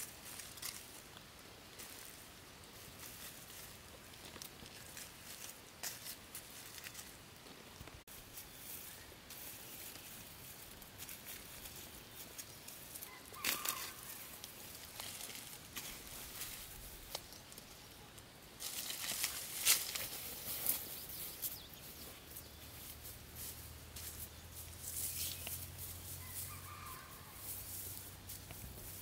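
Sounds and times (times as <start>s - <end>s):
leaves rustling: 0.0s - 29.0s
footsteps through dry leaves: 1.8s - 7.2s, 8.1s - 17.2s, 18.6s - 29.0s.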